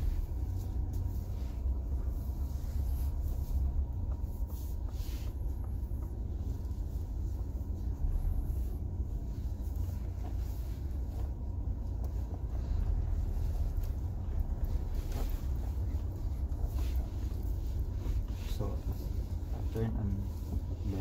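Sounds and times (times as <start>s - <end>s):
diesel truck rumbling from inside: 0.0s - 21.0s.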